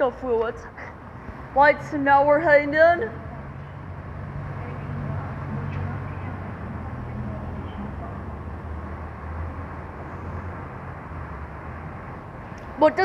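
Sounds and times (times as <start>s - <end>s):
car engine humming: 0.6s - 13.0s.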